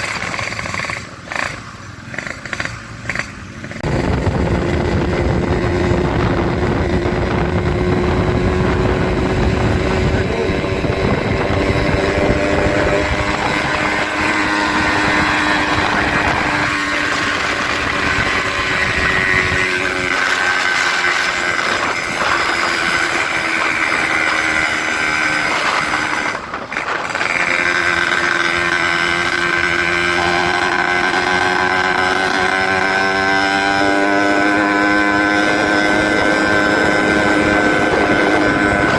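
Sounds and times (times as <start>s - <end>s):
motorcycle engine with loud muffler: 0.0s - 38.9s.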